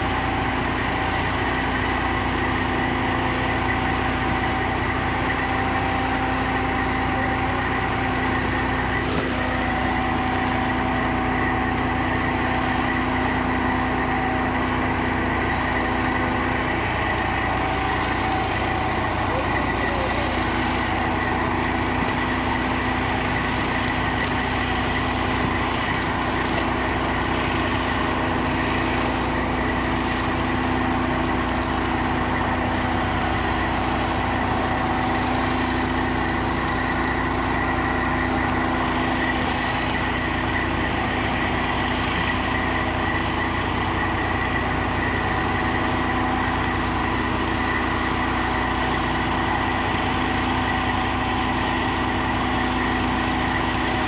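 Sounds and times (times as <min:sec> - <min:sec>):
fire truck engine running: 0:00.0 - 0:54.0
high whine: 0:00.0 - 0:54.0.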